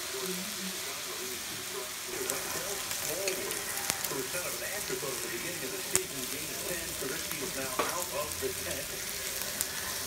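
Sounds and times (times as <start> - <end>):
beef sizzling on a griddle: 0.0 - 10.0.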